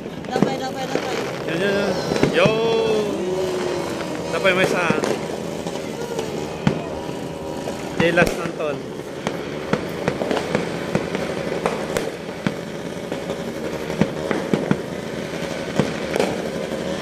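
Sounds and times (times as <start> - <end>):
continuous noisy din: 0.0 - 17.0
fireworks bangs and pops: 0.0 - 17.0.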